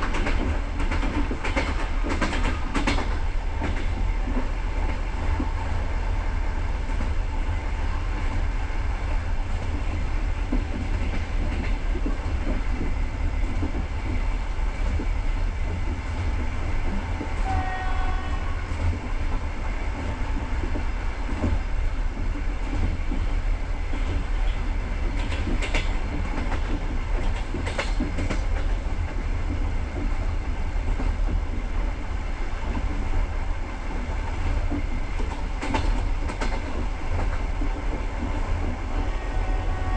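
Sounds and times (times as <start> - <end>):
rail joint clicks: 0.0 - 39.9
train wheels rumbling on rails: 0.0 - 39.9.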